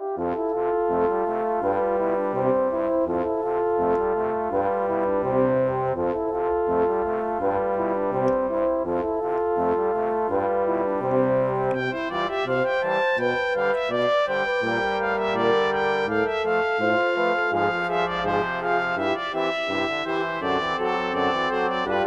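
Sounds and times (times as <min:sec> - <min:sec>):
brass ensemble playing: 0:00.0 - 0:22.0.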